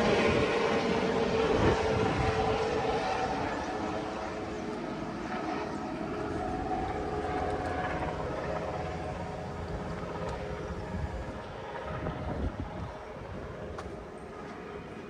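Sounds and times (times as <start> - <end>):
distant engine drone: 0.0 - 15.0
wind: 0.0 - 15.0.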